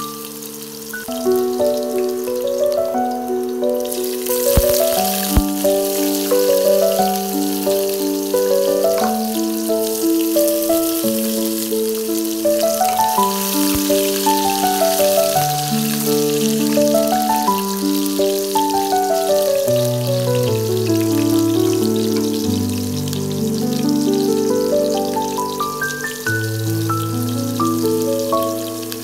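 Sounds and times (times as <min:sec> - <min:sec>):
background music melody: 0:00.0 - 0:29.0
onions sizzling in hot oil: 0:00.0 - 0:29.0.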